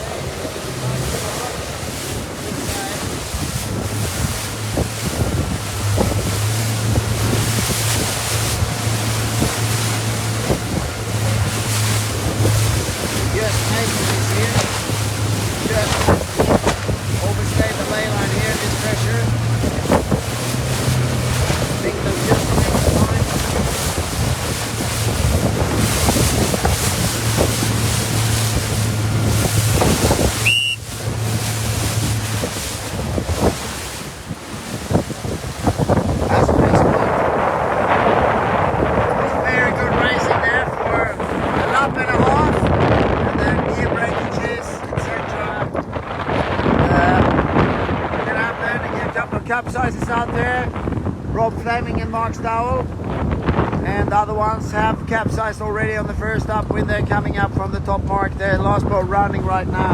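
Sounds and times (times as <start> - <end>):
motorboat engine humming: 0.0 - 59.9
water washing against hull: 0.0 - 59.9
wind buffeting microphone: 0.0 - 59.9.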